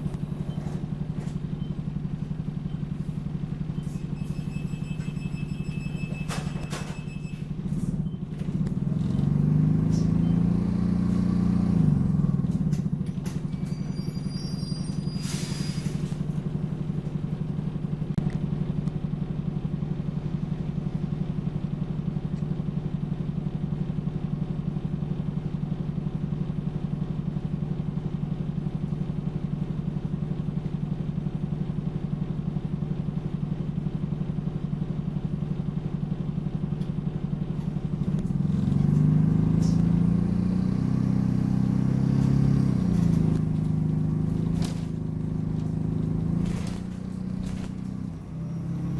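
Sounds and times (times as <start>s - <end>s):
bus engine drone: 0.0s - 48.9s.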